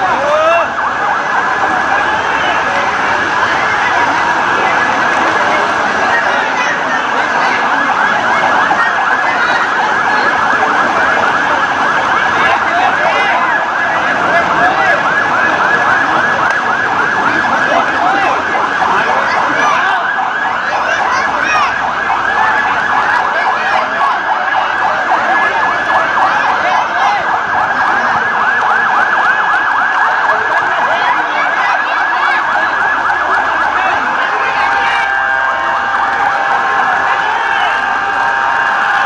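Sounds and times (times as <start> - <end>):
sirens wailing: 0.0 - 39.0.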